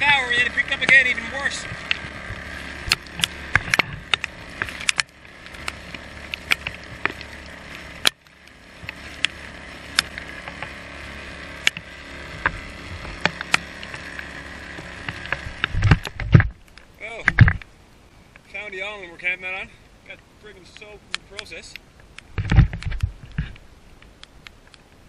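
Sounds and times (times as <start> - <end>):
boat motor hum: 0.0 - 25.0
waves and raindrops slapping hull: 0.0 - 25.0.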